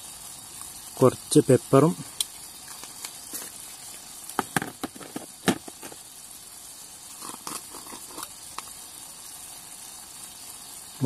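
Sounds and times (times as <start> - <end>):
curry sizzling in a frying pan: 0.0 - 11.0.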